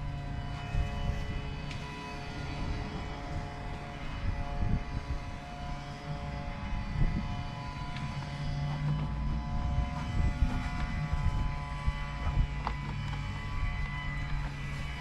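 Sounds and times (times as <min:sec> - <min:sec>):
mechanical drone with low rumble: 0:00.0 - 0:15.0.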